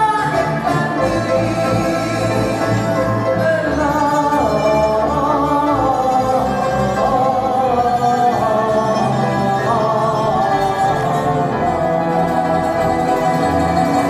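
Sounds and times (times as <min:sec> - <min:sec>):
instrumental accompaniment: 0:00.0 - 0:14.0
large choir singing: 0:00.0 - 0:14.0.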